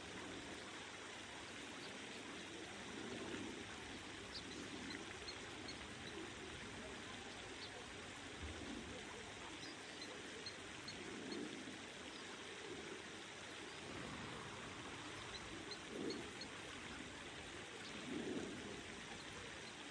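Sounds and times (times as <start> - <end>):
outdoor background hiss: 0.0 - 19.9.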